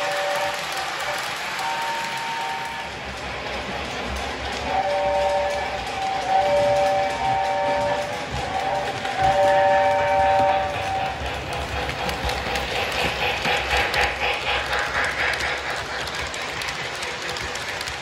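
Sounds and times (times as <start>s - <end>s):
toy train rumbling on track: 0.0s - 18.0s
toy train steam chuffing: 0.0s - 18.0s.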